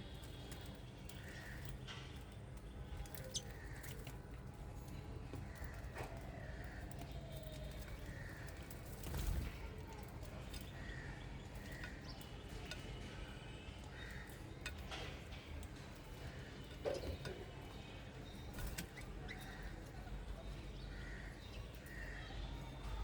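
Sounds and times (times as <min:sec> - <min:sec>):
small birds chirping: 0:03.0 - 0:04.2, 0:05.5 - 0:23.0.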